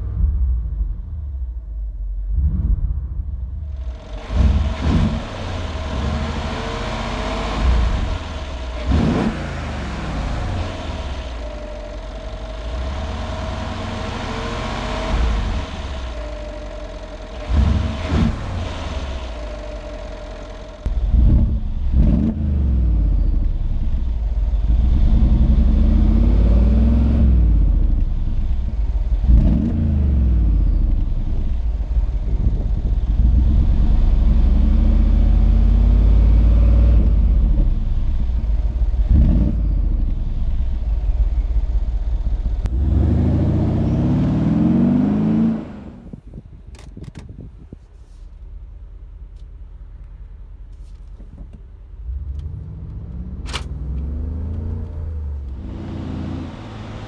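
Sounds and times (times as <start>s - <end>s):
car engine idling and revving: 0.0s - 57.0s
car pulling away: 2.2s - 46.3s, 48.4s - 57.0s.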